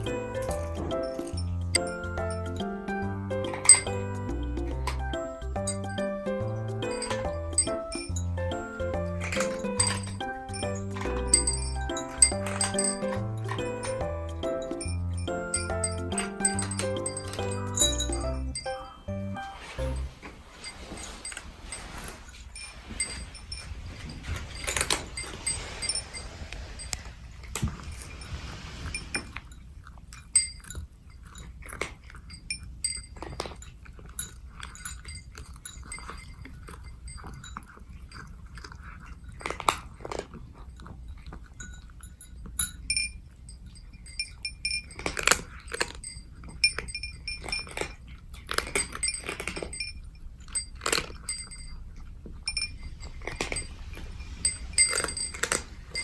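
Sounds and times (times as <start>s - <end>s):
cats crunching dry kibble: 0.0s - 17.9s, 20.0s - 56.0s.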